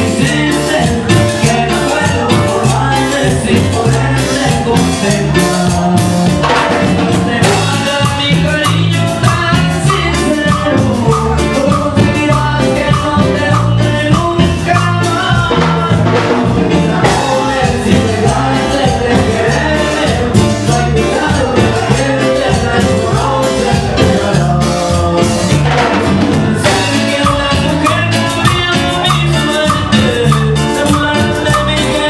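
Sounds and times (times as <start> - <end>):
live band playing dance music: 0.0 - 32.0
person singing: 0.0 - 32.0.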